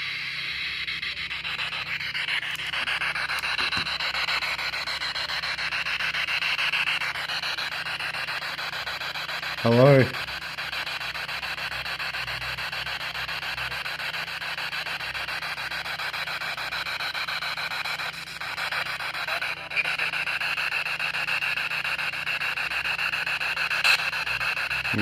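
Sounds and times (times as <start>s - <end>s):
rapidly chopped radio static: 0.0s - 25.0s.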